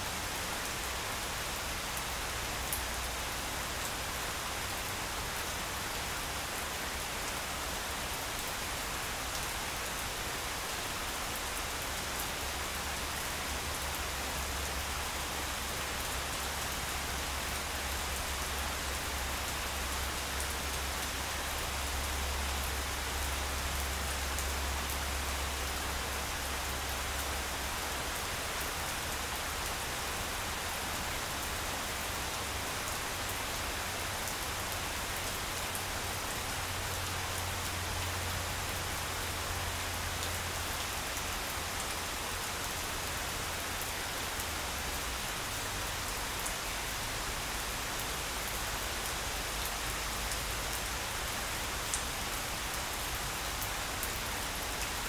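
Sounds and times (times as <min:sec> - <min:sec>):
rain falling on grass: 0:00.0 - 0:55.0.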